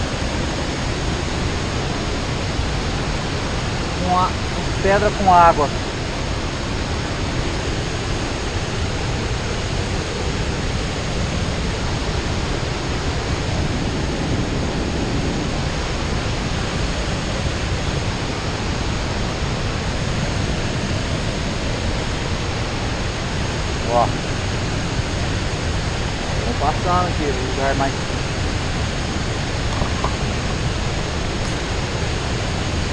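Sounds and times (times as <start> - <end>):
waterfall and river rapids rushing: 0.0 - 32.9.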